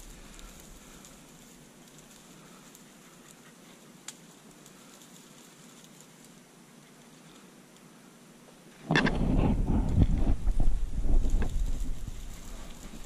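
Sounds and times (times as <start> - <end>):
dry brush rustling and crackling: 0.0 - 13.0.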